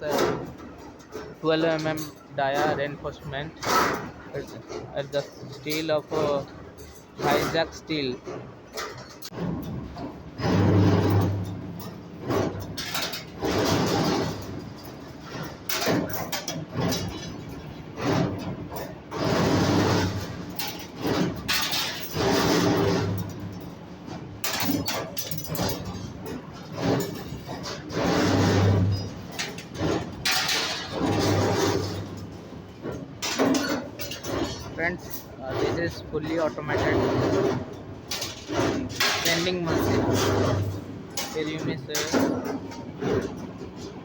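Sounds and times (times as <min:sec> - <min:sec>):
bending machine mechanical noise: 0:00.0 - 0:44.0.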